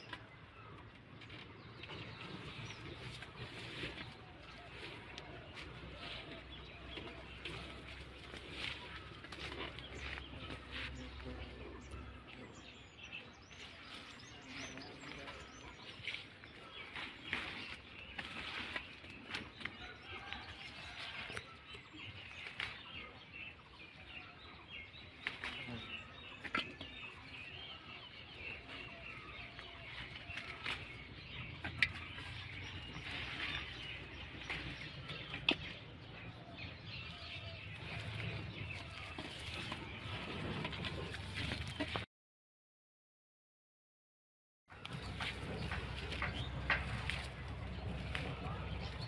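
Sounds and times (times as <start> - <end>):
small birds chirping: 0.0 - 42.0, 44.7 - 49.0.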